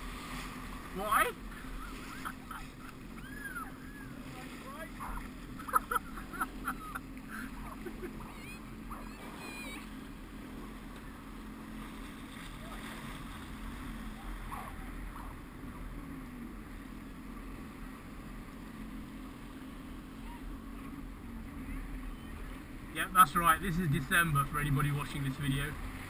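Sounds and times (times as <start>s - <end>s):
jet ski engine idling: 0.0s - 26.0s
water lapping: 0.0s - 26.0s.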